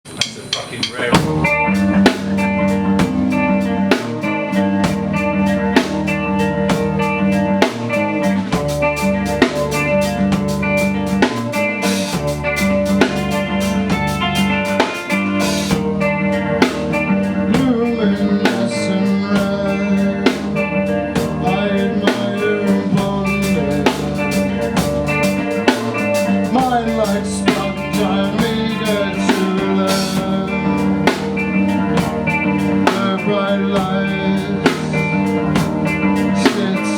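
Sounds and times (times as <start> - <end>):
drum kit steady beat: 0.0 - 36.9
guitar: 0.1 - 36.9.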